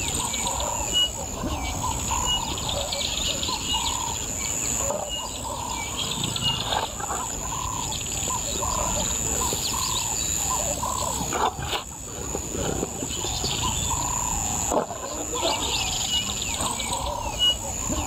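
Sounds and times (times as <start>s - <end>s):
birds whistling and chirping: 0.0s - 11.3s, 13.0s - 18.0s
steady high-pitched buzz: 0.0s - 18.0s.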